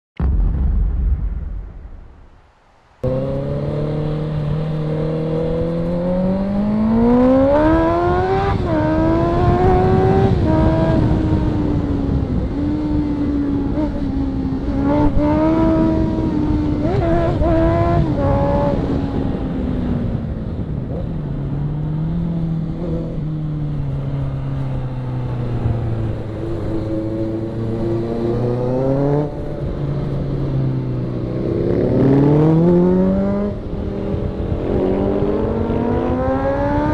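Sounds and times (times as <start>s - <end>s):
motorcycle engine accelerating: 3.0s - 36.9s.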